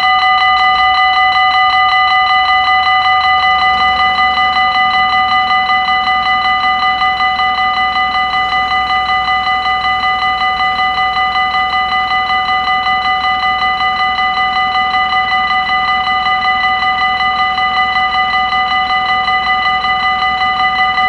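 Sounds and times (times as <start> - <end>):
electronic level crossing bell: 0.0 - 21.0.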